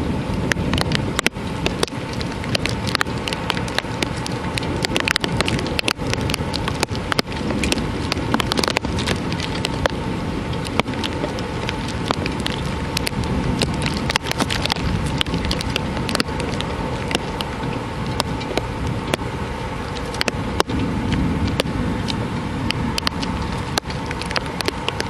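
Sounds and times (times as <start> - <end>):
heavy rain: 0.0 - 25.0
raindrops hitting close by: 0.0 - 25.0.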